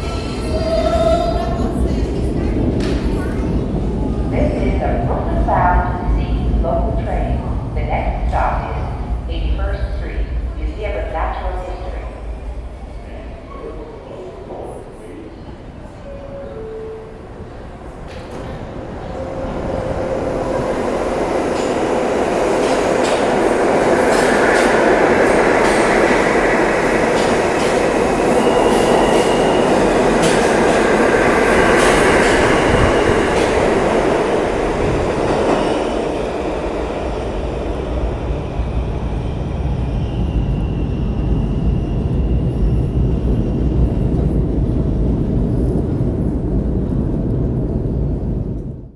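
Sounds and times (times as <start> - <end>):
train wheels on track: 0.0 - 8.8, 17.4 - 48.9
low rumble of train in tunnel: 0.0 - 48.9.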